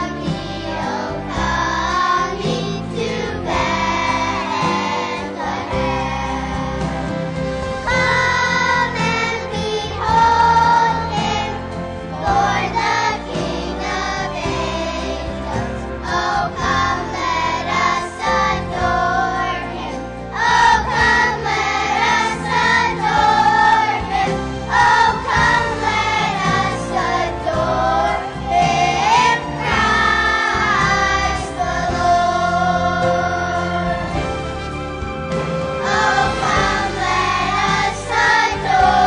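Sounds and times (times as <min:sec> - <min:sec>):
children's choir singing: 0:00.0 - 0:39.0
musical accompaniment: 0:00.0 - 0:39.0.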